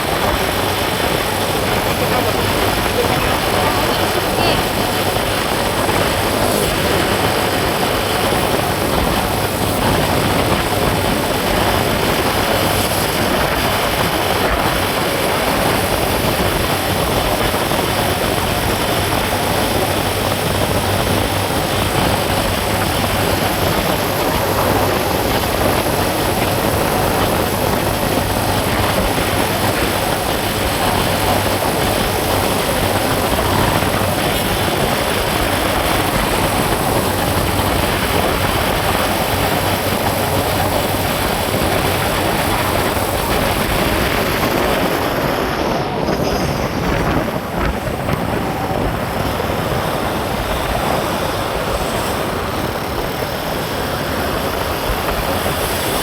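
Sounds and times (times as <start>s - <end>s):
vehicle engine and travel rumble: 0.0s - 56.0s.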